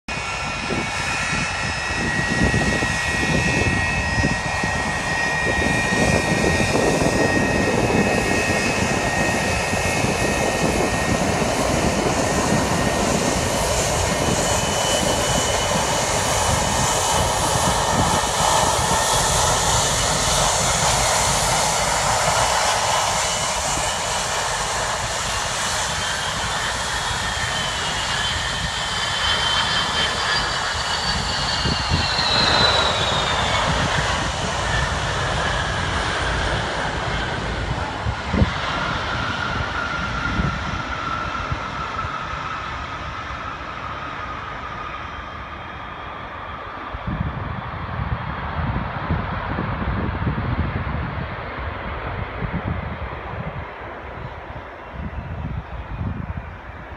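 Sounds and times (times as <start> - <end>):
jet engine roar and whine: 0.0 - 56.9.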